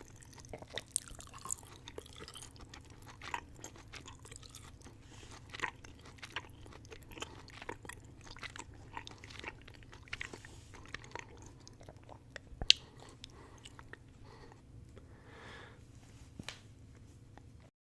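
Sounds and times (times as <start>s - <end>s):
mouth chewing candy: 0.0s - 15.1s.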